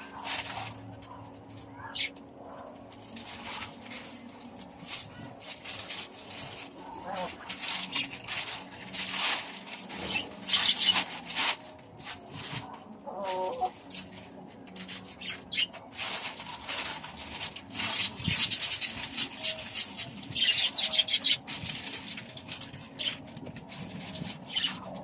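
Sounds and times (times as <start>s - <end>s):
plastic bag rustling: 0.0s - 25.0s.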